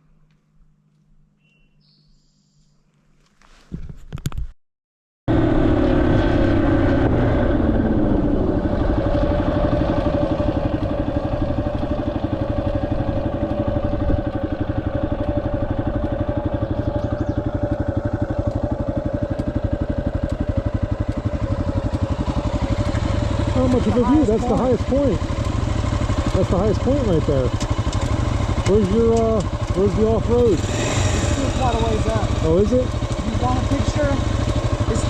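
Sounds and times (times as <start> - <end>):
motorcycle engine running: 5.3 - 35.0.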